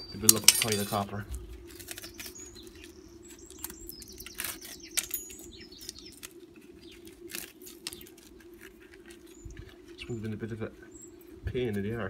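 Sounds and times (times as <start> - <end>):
copper wire crinkly rustling: 0.0 - 12.0.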